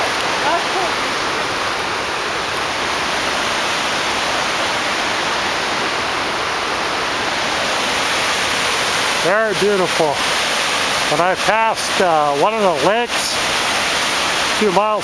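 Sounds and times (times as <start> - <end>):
rushing whitewater: 0.0 - 15.0.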